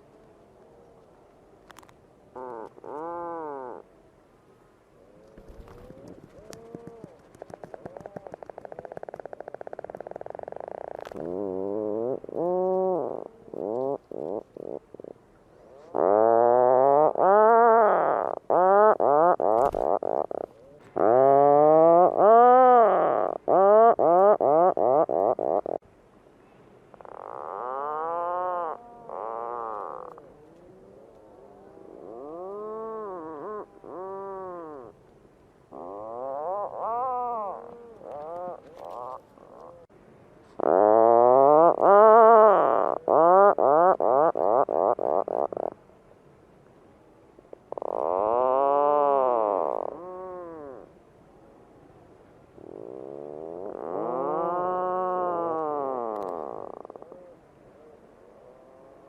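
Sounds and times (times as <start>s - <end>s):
puffin moaning calls: 2.3s - 4.0s, 5.0s - 25.8s, 27.0s - 35.0s, 35.7s - 39.9s, 40.5s - 45.8s, 47.7s - 51.0s, 52.6s - 59.0s.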